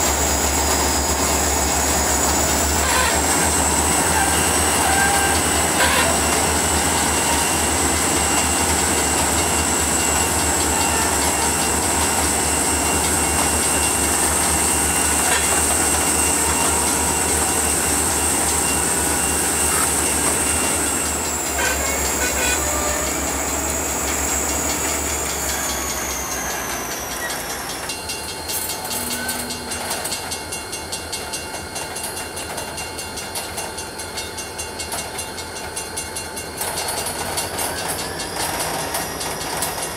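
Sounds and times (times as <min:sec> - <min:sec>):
high wheel squeal: 0:00.0 - 0:30.3, 0:36.8 - 0:39.9
train cars rumbling over rails: 0:00.0 - 0:39.9
train wheels clickety-clack: 0:00.0 - 0:39.9.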